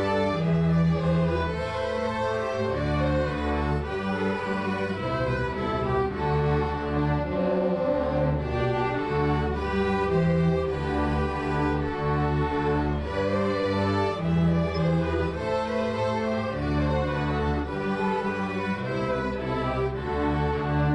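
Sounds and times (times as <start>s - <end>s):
string orchestra playing: 0.0s - 20.9s.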